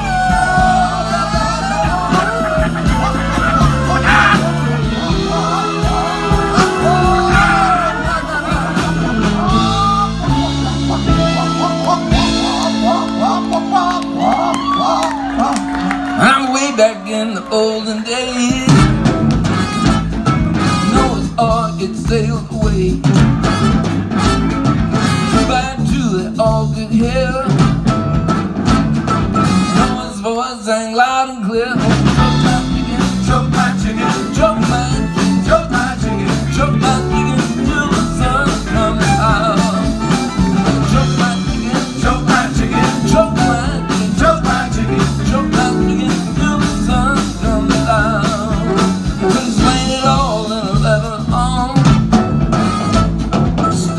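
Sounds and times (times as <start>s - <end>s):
man singing lead vocal: 0.0s - 19.1s, 20.7s - 23.6s, 25.3s - 27.8s, 29.7s - 52.2s, 53.6s - 53.9s
live band playing blues: 0.0s - 53.9s.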